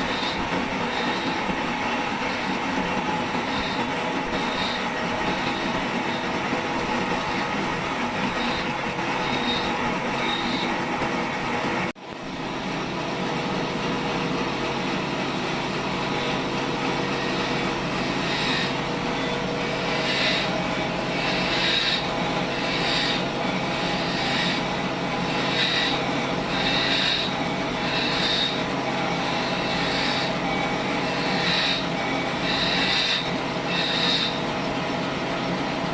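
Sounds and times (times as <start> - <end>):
saw cutting through wood: 0.0 - 12.0, 17.0 - 34.7
machine running hum: 0.0 - 35.9.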